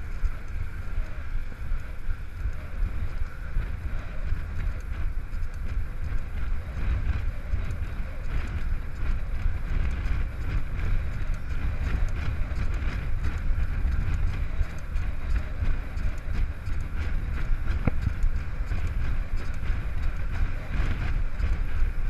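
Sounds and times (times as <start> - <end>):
bike tyres rolling on asphalt: 0.0 - 22.0
wind buffeting microphone: 0.0 - 22.0.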